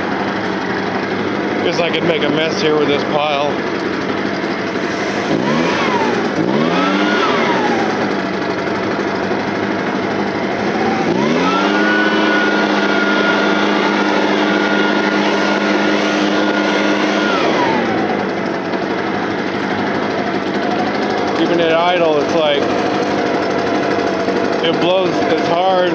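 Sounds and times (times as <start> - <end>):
leaf blower engine revving and idling: 0.0 - 25.9.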